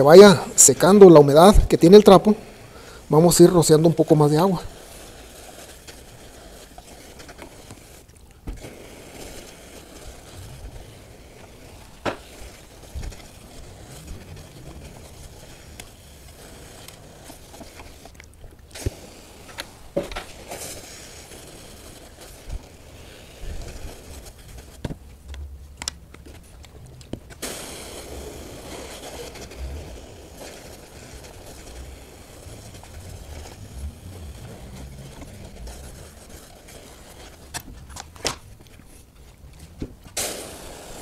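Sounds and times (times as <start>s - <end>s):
steam hissing: 0.0s - 24.8s, 27.3s - 37.6s, 40.1s - 41.0s.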